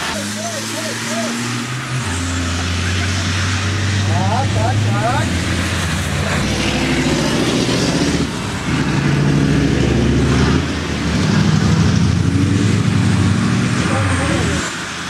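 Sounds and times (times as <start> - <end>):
diesel truck engine running hard: 0.0 - 15.0.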